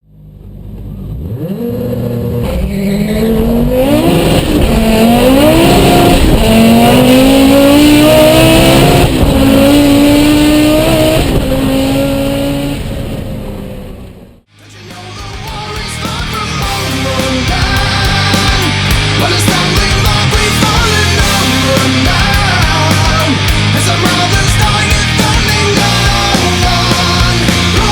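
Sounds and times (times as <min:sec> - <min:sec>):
car engine accelerating hard: 0:00.0 - 0:14.5, 0:16.6 - 0:27.9.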